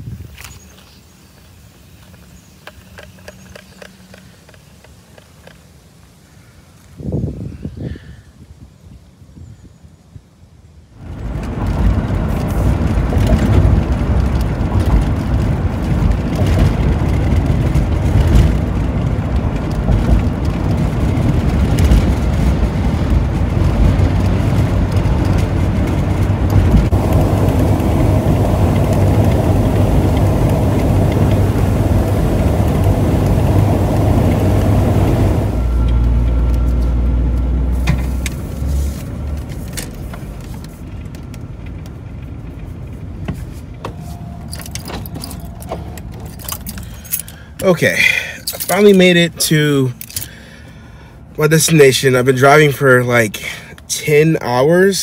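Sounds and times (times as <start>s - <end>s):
van engine and tyre drone: 11.0s - 55.0s.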